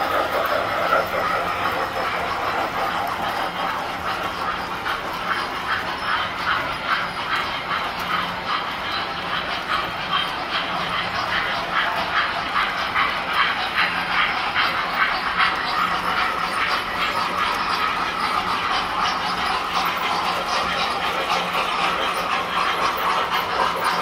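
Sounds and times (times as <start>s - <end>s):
model train motors humming: 0.0s - 24.0s
wheels clicking over rail joints: 0.0s - 24.0s.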